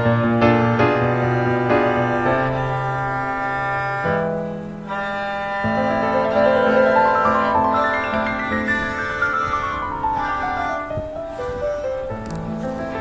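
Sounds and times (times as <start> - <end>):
low string notes: 0.0 - 11.2
piano: 0.0 - 13.0.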